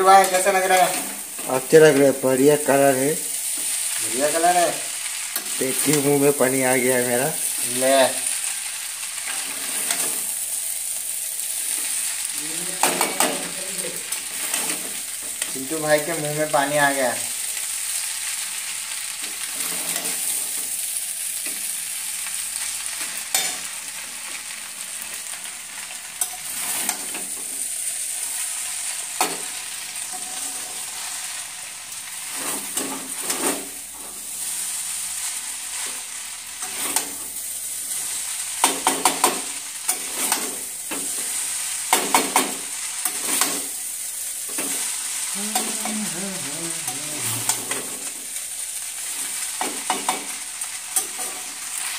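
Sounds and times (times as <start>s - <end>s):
noodles sizzling in frying pan: 0.0s - 51.9s.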